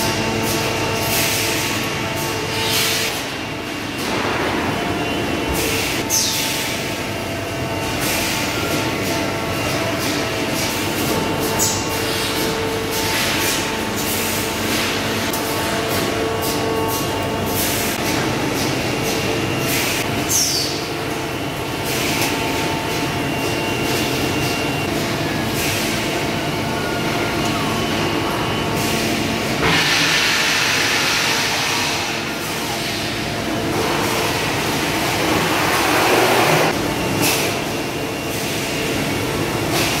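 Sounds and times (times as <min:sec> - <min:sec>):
machine hum with motor tones: 0:00.0 - 0:40.0.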